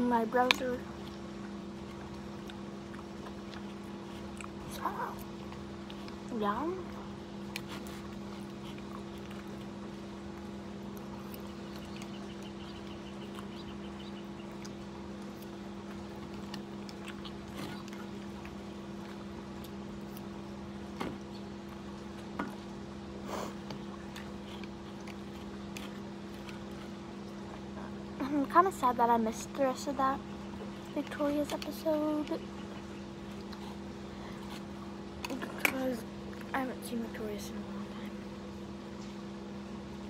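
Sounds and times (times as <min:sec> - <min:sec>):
low two-tone hum: 0:00.0 - 0:40.0.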